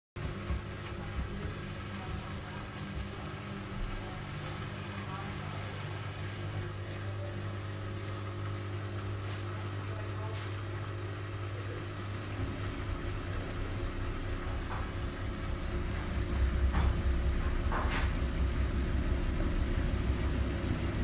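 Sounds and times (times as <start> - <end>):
washing machine spinning up: 0.2 - 21.0.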